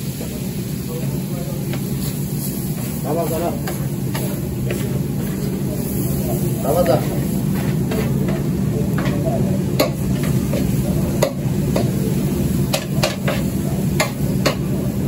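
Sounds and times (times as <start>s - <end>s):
meat sizzling on steel pan: 0.0s - 15.0s.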